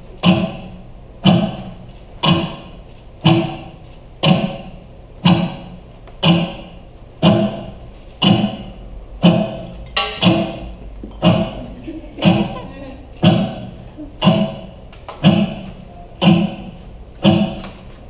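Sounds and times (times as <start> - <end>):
steady percussion beat: 0.0 - 17.8.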